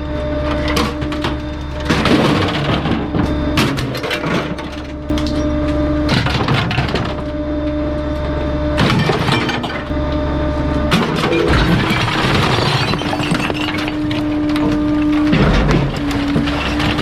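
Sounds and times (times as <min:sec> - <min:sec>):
garbage truck humming: 0:00.0 - 0:17.0
compactor crushing and cracking: 0:00.4 - 0:07.4, 0:08.1 - 0:10.0, 0:10.8 - 0:17.0.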